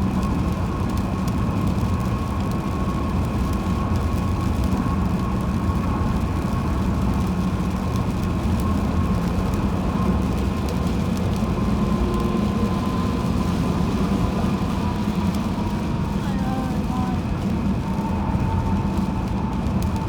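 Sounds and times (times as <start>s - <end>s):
road and tyre noise in rain: 0.0s - 20.0s.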